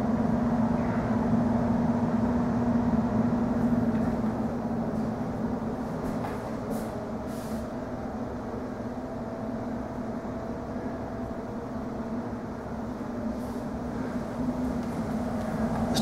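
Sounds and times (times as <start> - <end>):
low rumble with hum: 0.0 - 16.0.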